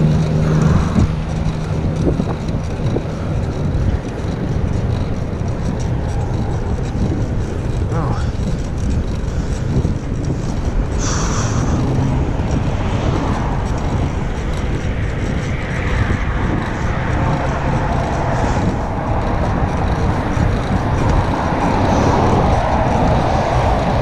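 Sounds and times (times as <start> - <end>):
cars passing: 0.0 - 24.0
wind noise on microphone: 0.0 - 24.0.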